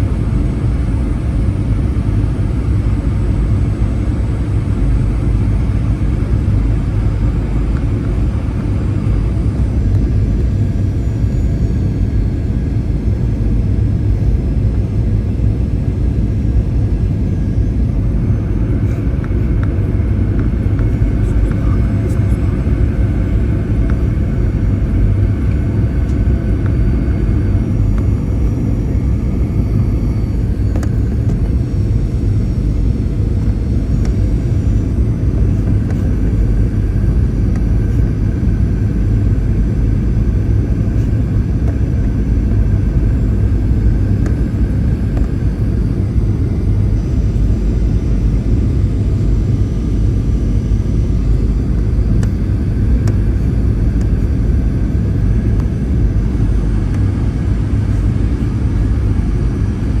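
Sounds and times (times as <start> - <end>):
airplane cabin rumble: 0.0 - 60.0
faint high whine: 0.0 - 60.0.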